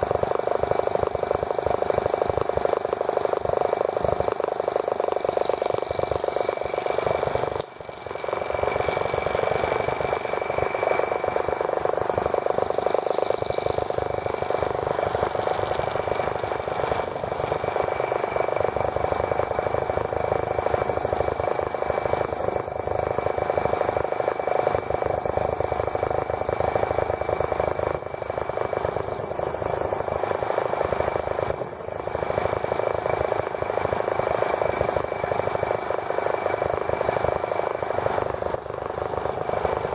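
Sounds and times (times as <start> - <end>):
small model engine buzzing: 0.0 - 39.9.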